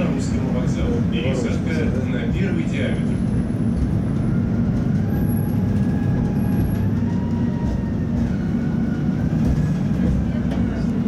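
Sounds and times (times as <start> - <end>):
faint tram whine: 0.0 - 11.0
tram wheels rumbling: 0.0 - 11.0.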